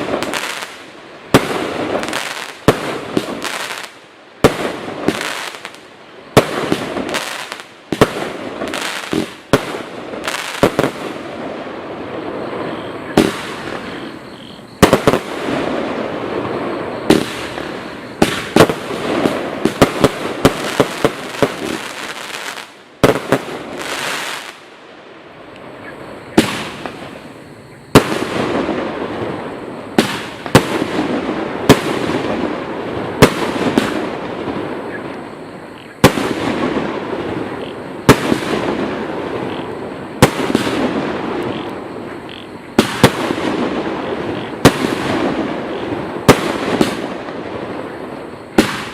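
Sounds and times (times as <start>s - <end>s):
fireworks firing: 0.0s - 14.2s, 14.8s - 24.8s, 26.3s - 35.4s, 36.0s - 48.9s.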